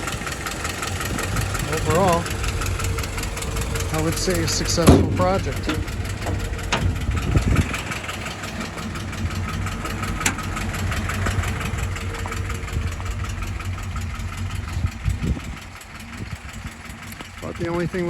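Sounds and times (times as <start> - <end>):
four-cylinder engine idling: 0.0 - 18.0.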